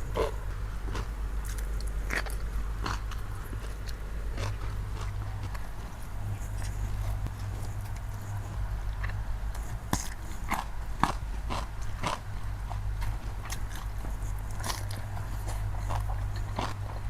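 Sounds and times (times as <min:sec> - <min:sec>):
low hum: 0:00.0 - 0:17.0
person chewing crunchy food: 0:00.0 - 0:17.0.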